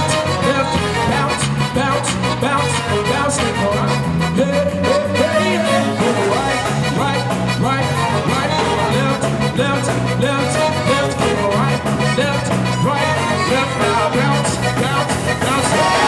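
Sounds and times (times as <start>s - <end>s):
live band playing dance tune: 0.0s - 16.0s.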